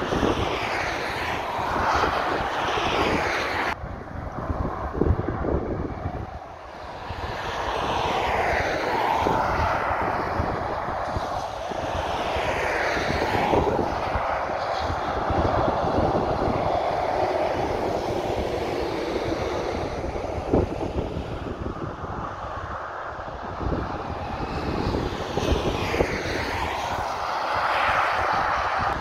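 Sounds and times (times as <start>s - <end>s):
car passing at speed: 0.0s - 29.0s
lorry passing at speed: 0.0s - 29.0s.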